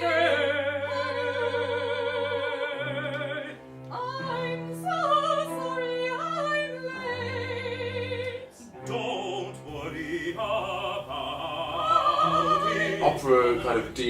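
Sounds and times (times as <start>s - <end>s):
operatic singing with vibrato: 0.0s - 14.0s.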